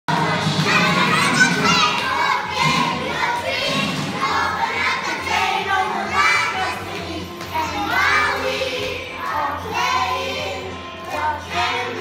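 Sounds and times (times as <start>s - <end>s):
children shouting and cheering: 0.1s - 12.0s.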